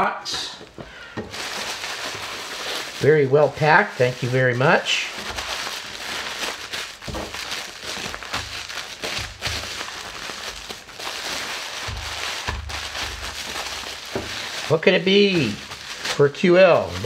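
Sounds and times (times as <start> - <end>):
bubble wrap crinkling: 0.6 - 17.0
bubble wrap crackles: 1.2 - 17.0.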